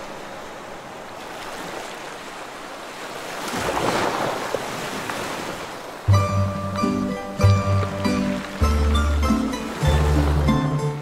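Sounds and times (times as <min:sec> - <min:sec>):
sea waves washing: 0:00.0 - 0:11.0.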